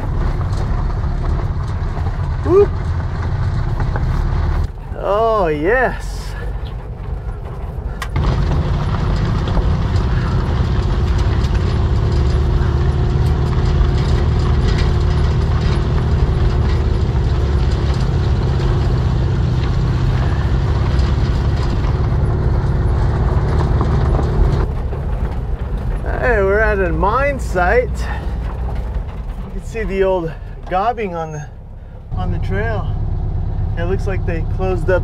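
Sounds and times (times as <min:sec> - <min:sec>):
van engine droning: 0:00.0 - 0:35.0
vehicle body rattling and ticking: 0:00.0 - 0:35.0.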